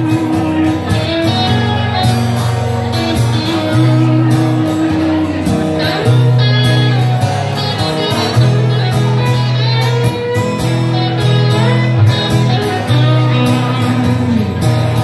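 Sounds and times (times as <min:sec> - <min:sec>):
acoustic-electric guitar playing: 0:00.0 - 0:15.0
electric guitar playing: 0:00.0 - 0:15.0.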